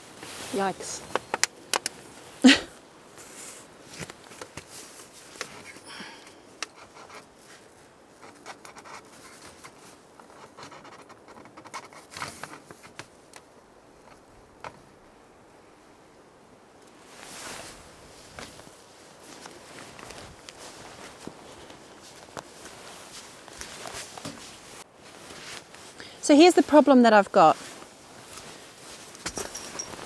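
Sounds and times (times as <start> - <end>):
rustling: 0.0 - 14.9, 16.9 - 30.0.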